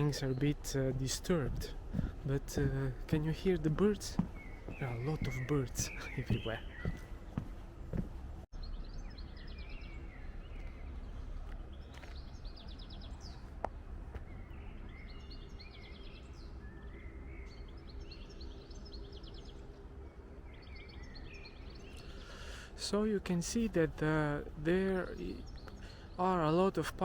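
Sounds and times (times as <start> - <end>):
low background rumble: 0.0 - 26.2
songbirds singing: 0.0 - 27.0.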